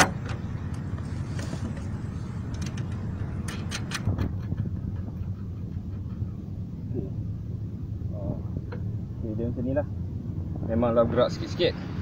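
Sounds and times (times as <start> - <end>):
low rumble: 1.0 - 12.0.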